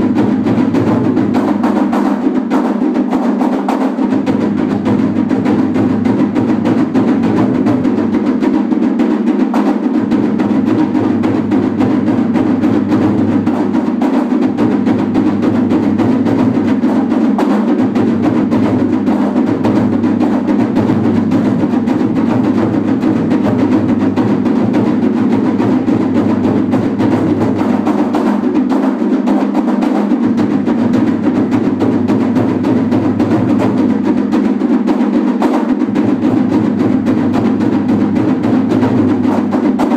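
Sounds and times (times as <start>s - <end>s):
taiko drums beaten loudly: 0.0s - 39.9s.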